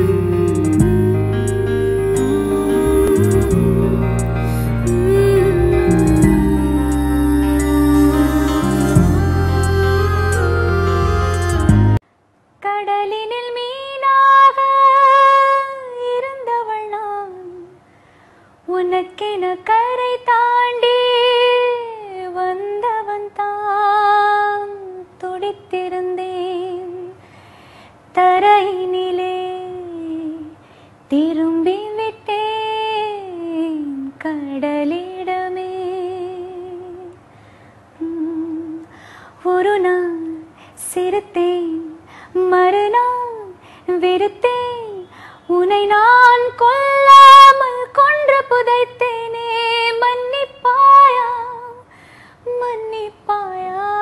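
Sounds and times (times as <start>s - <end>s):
woman singing unaccompanied: 0.0s - 12.0s, 12.6s - 17.8s, 18.7s - 27.2s, 28.1s - 37.2s, 38.0s - 54.0s.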